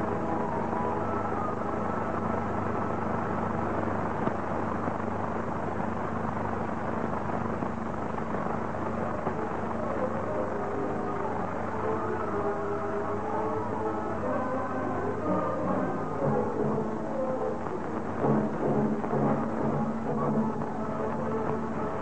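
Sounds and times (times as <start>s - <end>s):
film soundtrack hum and hiss: 0.0s - 22.0s.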